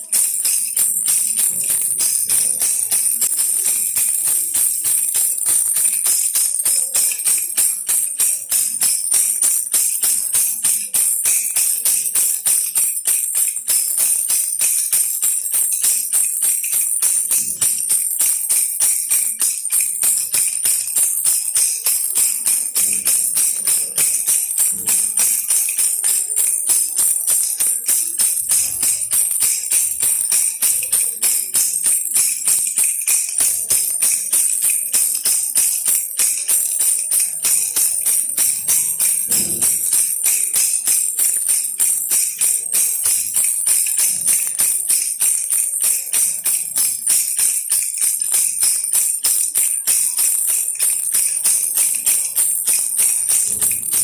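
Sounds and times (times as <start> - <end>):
baby rattle jingling: 0.0 - 54.0.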